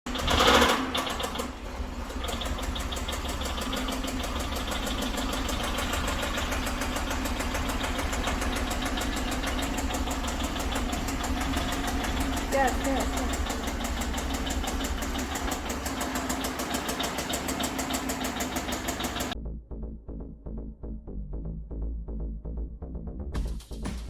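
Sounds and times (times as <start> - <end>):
car engine surging and idling: 0.0 - 19.4.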